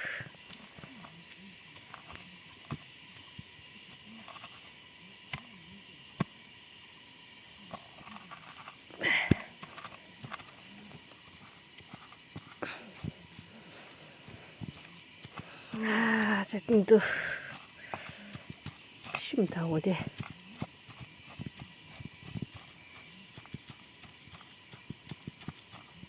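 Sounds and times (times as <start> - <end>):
faint steady background noise: 0.0 - 26.0.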